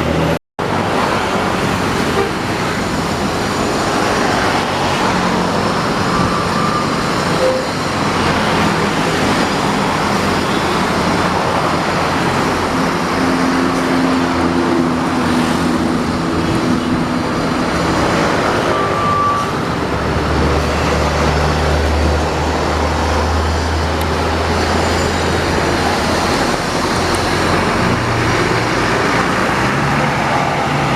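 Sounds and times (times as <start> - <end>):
buses engine and tyre noise: 0.0 - 30.9.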